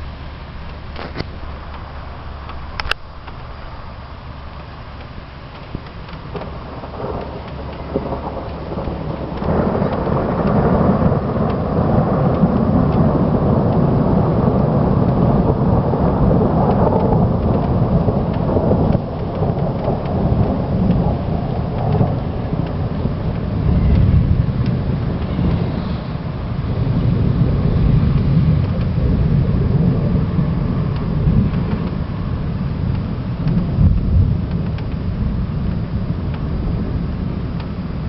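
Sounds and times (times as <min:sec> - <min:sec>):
rain falling: 0:00.0 - 0:38.0
thunder rumbling: 0:00.0 - 0:38.0.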